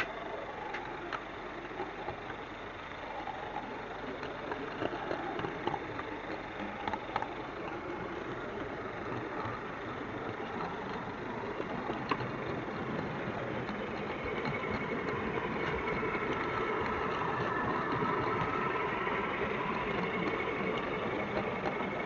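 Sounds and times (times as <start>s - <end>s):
model railway wagon rumbling: 0.0s - 22.0s.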